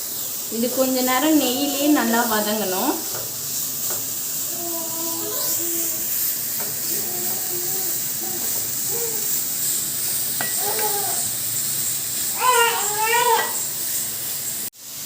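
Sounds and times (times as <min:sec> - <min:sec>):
carrots sizzling in a pan: 0:00.0 - 0:15.0.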